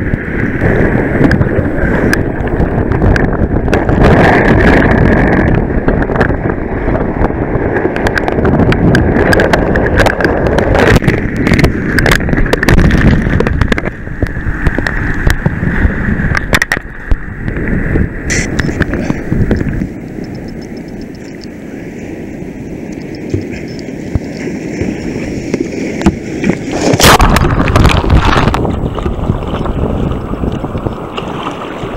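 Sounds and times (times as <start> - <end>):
water rushing and splashing: 0.0 - 31.9
wind buffeting microphone: 0.0 - 31.9.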